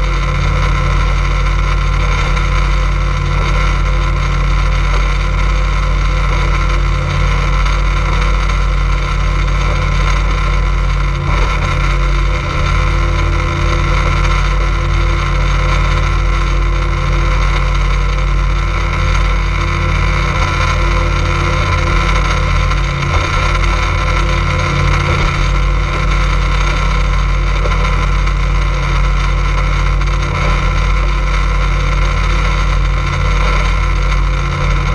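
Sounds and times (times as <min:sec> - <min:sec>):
motorboat engine drone: 0:00.0 - 0:34.9
water rushing along hull: 0:00.1 - 0:34.9.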